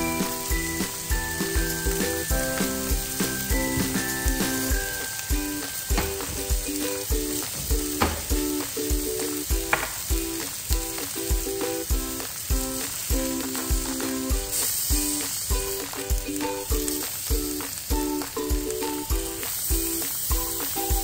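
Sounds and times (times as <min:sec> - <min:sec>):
background music with steady beat: 0:00.0 - 0:21.0
meat sizzling on a griddle: 0:00.0 - 0:21.0.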